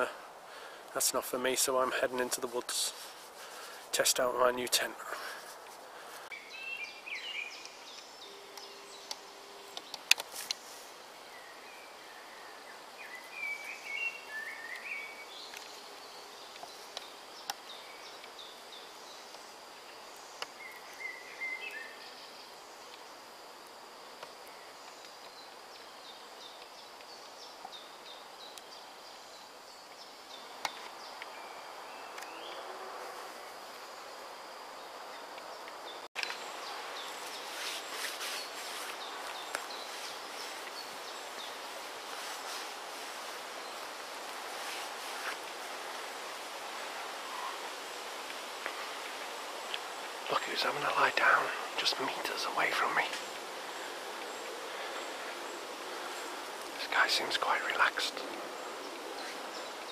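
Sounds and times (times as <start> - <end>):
songbird singing: 0.0 - 59.9
steady faint hiss: 0.0 - 59.9.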